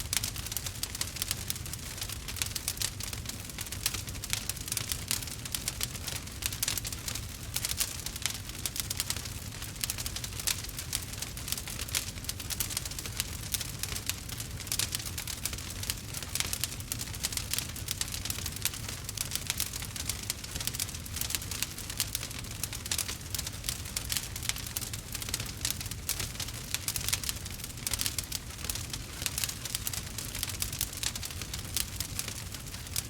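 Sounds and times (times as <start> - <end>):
burning wood crackling: 0.0 - 33.0
low rumble of flame: 0.0 - 33.0.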